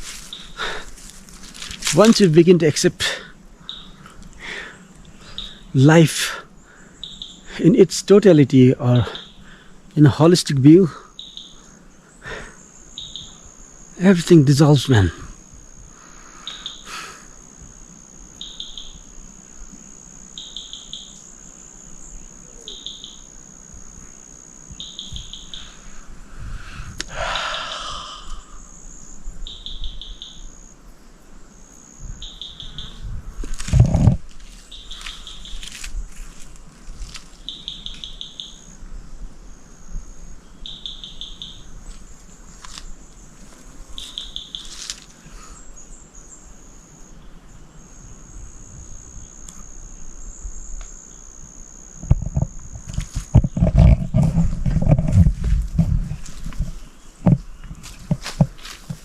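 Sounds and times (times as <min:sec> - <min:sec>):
insects trilling: 0:00.0 - 0:59.0
short insect chirps: 0:00.0 - 0:59.0.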